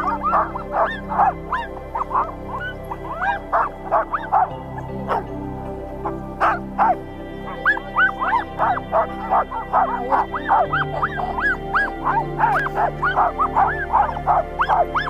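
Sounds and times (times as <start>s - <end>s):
sled dogs yipping and barking: 0.0s - 15.0s
soft background music: 0.0s - 15.0s.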